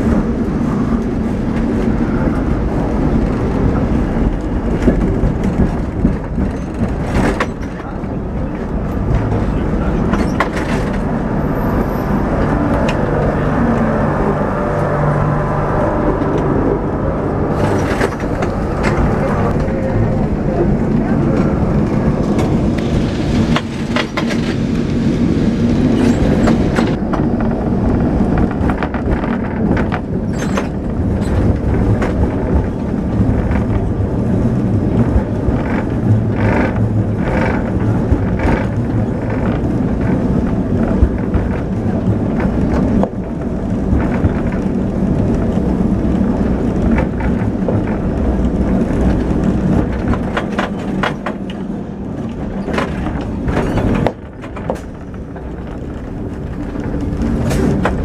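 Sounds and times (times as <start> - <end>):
tram wheels and motor rolling: 0.0 - 58.0
clicks and knocks from tram: 4.1 - 11.2, 17.6 - 24.9, 26.0 - 58.0.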